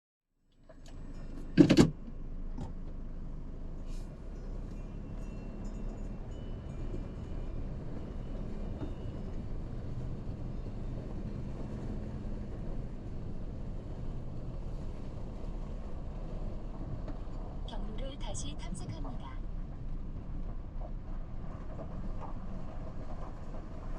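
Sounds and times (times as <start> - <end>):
engine and road noise in cabin: 0.4 - 23.9.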